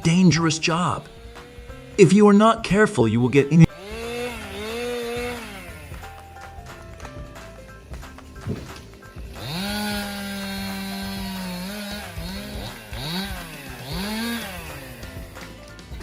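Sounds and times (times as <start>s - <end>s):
chainsaw engine revving: 0.0s - 6.8s, 7.7s - 16.0s.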